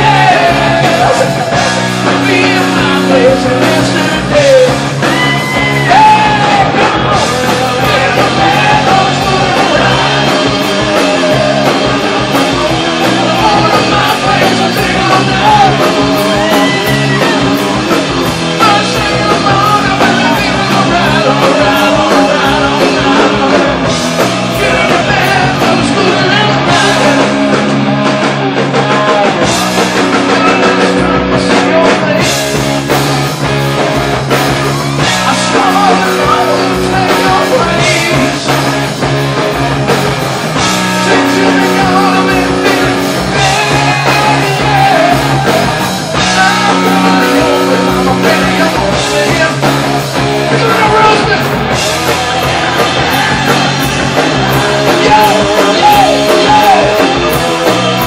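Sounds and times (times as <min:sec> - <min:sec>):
male lead vocal singing: 0:00.0 - 0:27.7, 0:28.7 - 0:33.4, 0:35.0 - 0:39.2, 0:40.6 - 0:58.0
bass guitar: 0:00.0 - 0:58.0
drums: 0:00.0 - 0:58.0
electric guitar: 0:00.0 - 0:58.0.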